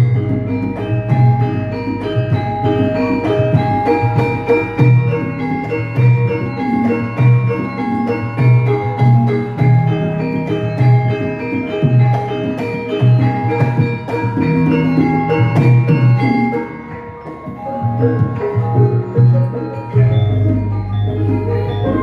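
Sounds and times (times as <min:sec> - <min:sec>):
metallophones striking ringing notes: 0:00.0 - 0:22.0.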